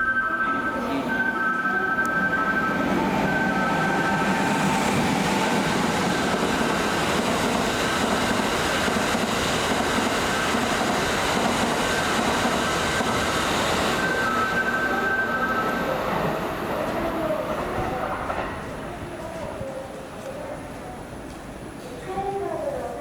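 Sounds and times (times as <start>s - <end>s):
electric train running past: 0.0s - 21.7s.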